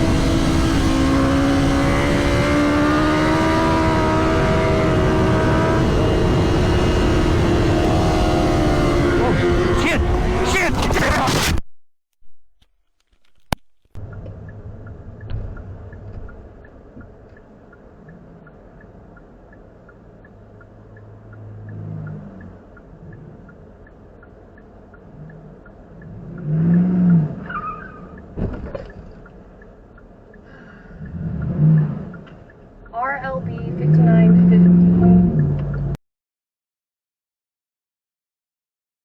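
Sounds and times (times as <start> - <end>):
car engine and road noise: 0.0 - 11.6, 12.9 - 36.0.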